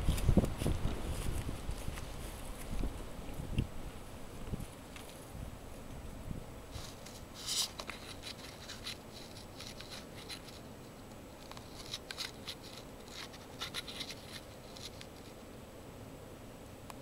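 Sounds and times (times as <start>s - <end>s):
heat pump fan hum: 0.0s - 17.0s.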